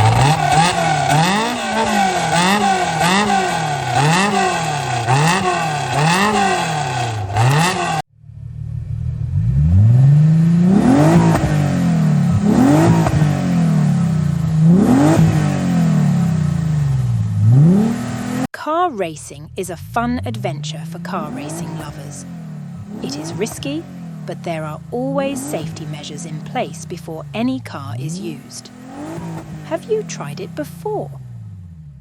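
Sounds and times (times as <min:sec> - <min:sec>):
engine accelerating through gears: 0:00.0 - 0:18.5, 0:19.8 - 0:32.0
racing car engine revving: 0:00.0 - 0:18.5, 0:19.6 - 0:32.0.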